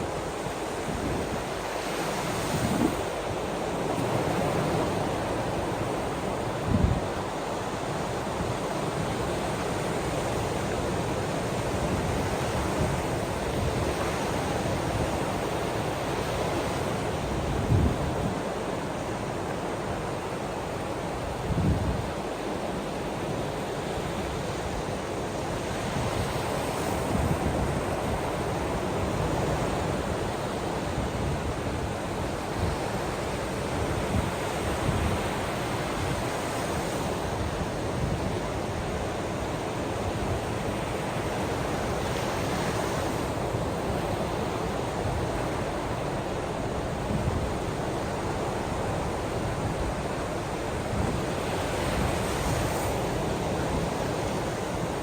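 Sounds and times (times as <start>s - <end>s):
ocean waves washing on shore: 0.0s - 55.0s.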